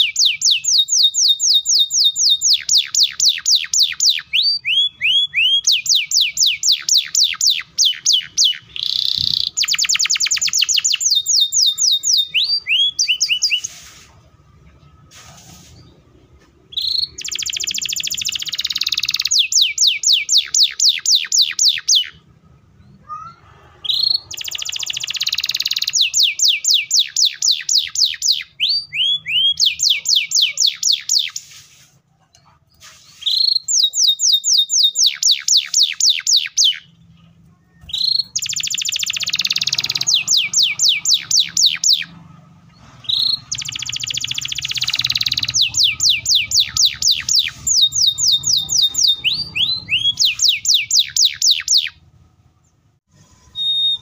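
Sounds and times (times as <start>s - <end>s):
canary singing: 0.0s - 31.6s, 32.4s - 54.0s.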